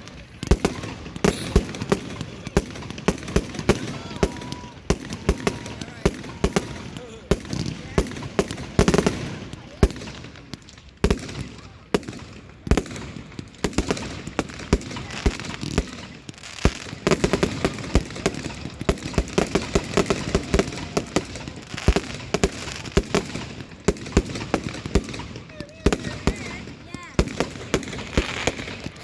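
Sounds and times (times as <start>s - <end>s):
fireworks exploding: 0.0s - 29.0s.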